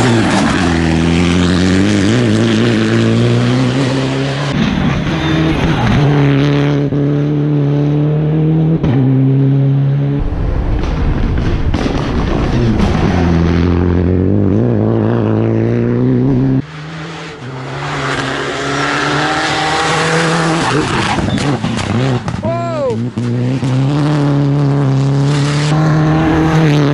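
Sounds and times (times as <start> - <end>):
rally car engine revving: 0.0 - 26.9.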